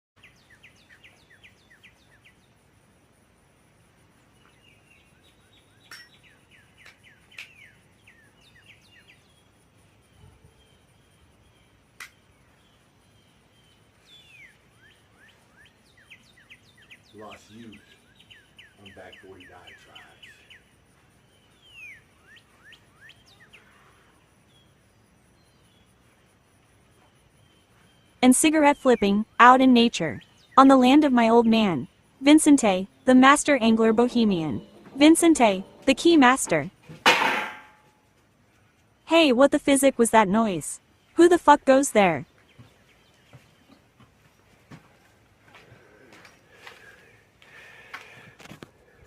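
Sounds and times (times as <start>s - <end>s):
songbirds chirping: 0.2s - 36.9s, 38.0s - 49.0s
outdoor background hiss: 0.2s - 49.0s.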